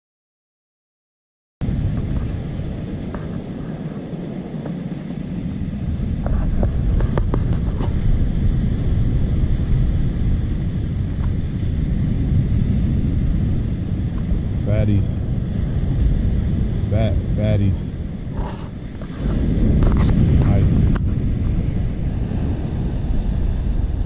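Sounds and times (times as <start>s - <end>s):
ocean surf breaking: 1.6s - 24.0s
wind buffeting microphone: 1.6s - 24.0s.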